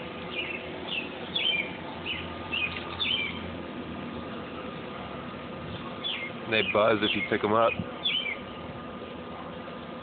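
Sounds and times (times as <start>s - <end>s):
cicada chorus drone: 0.0s - 9.2s
songbirds chirping: 0.0s - 10.0s.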